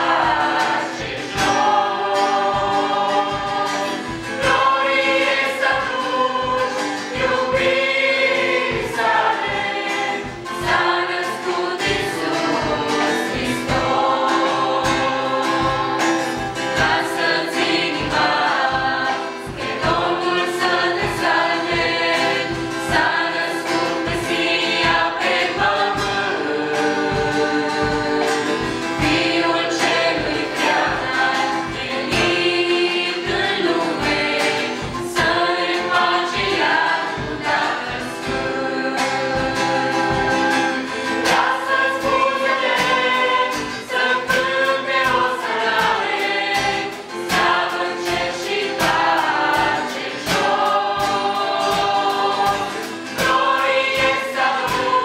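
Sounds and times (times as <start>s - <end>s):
acoustic guitar strumming: 0.0s - 55.0s
choir singing gospel song: 0.0s - 55.0s.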